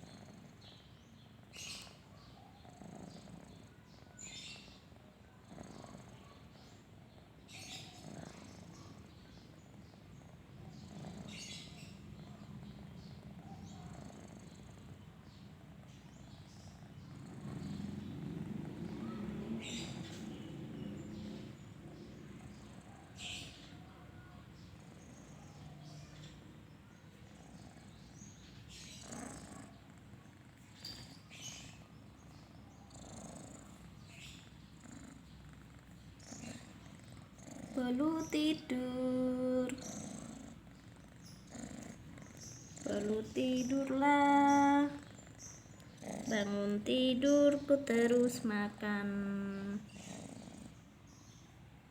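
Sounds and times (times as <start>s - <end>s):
cat purring snore: 0.0s - 51.4s.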